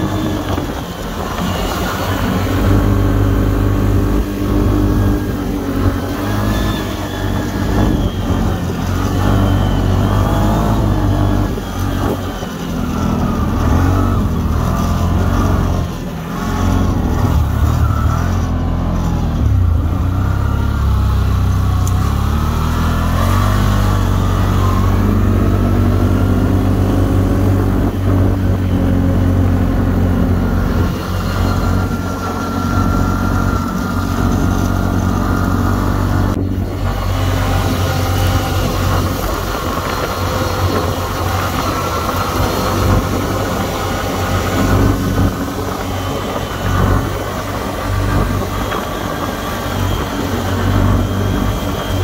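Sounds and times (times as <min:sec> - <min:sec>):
atv engine under load: 0:00.0 - 0:52.0.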